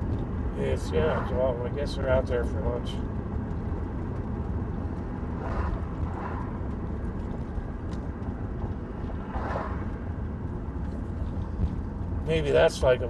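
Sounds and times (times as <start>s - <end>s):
road and engine rumble in vehicle: 0.0s - 13.0s.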